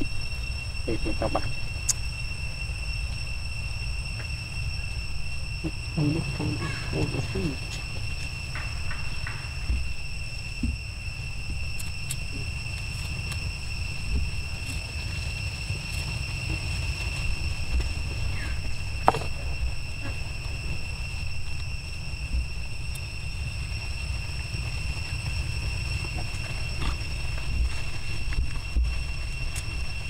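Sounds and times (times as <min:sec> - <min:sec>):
high-pitched insect drone: 0:00.0 - 0:30.0
low rumble: 0:00.0 - 0:30.0.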